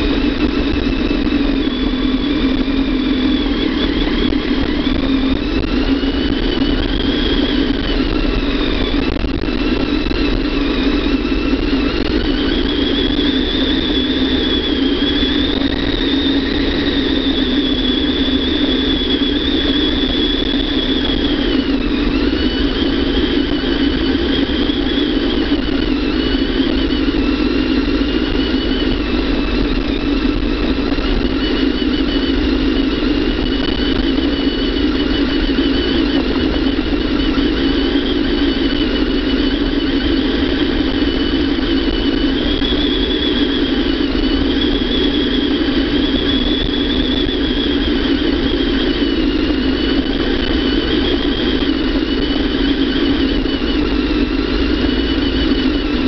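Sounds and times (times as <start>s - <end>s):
high engine whine: 0.0s - 56.0s
motorcycle engine running: 0.0s - 56.0s.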